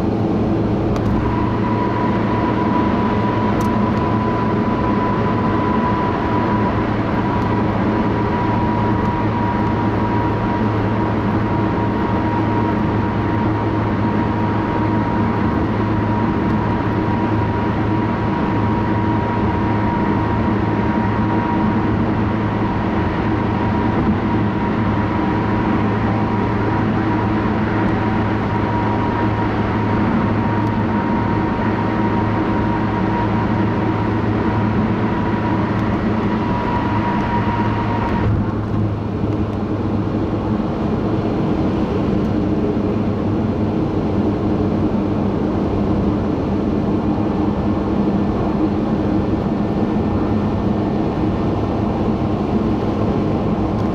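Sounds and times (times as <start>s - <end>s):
car road and engine noise: 0.0s - 53.9s.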